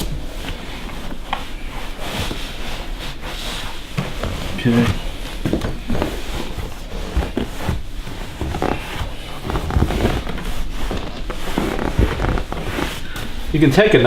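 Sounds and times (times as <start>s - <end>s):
hands rubbing and scraping leather: 0.0s - 14.0s.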